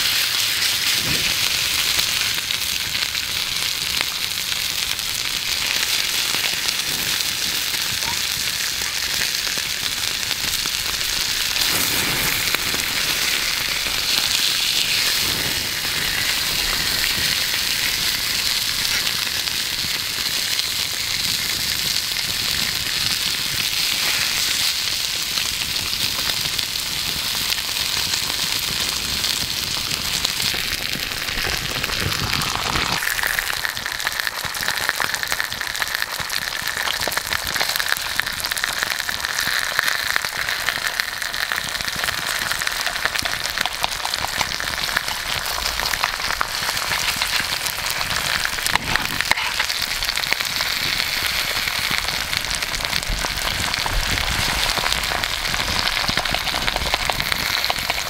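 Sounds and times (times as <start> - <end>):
campfire crackling: 0.0 - 58.0
steak sizzling in a frying pan: 0.0 - 58.0.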